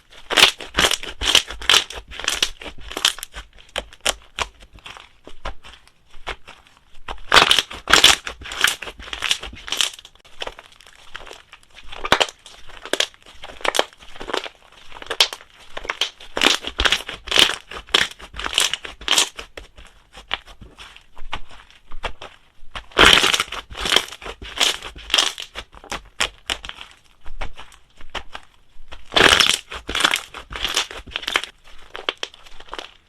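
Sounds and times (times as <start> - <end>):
slime squishing by hand: 0.0 - 33.0.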